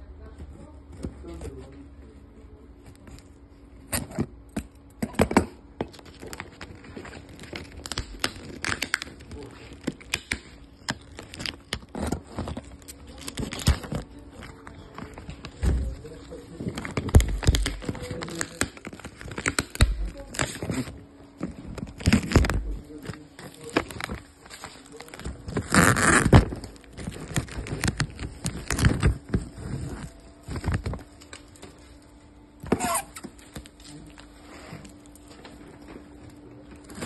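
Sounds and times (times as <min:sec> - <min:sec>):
plastic film crinkling: 0:05.9 - 0:36.1.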